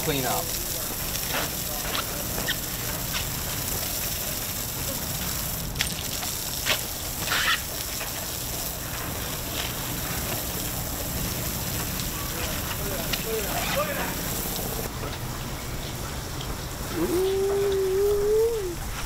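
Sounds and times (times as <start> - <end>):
hose spraying water on decking: 0.0 - 19.0.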